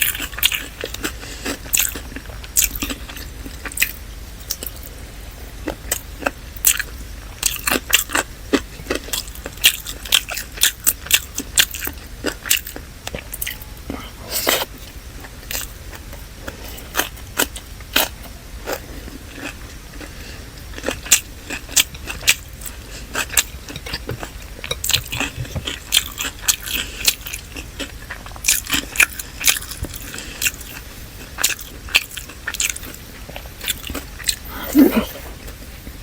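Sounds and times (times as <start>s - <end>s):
person chewing food: 0.0s - 5.0s, 5.6s - 36.0s.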